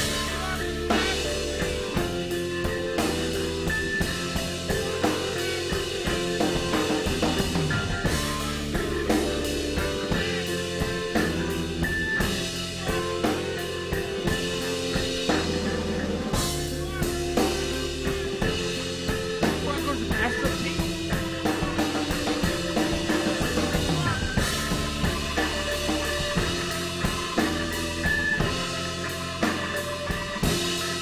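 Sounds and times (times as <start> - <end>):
drum kit beat: 0.0 - 31.0
rock band playing: 0.0 - 31.0.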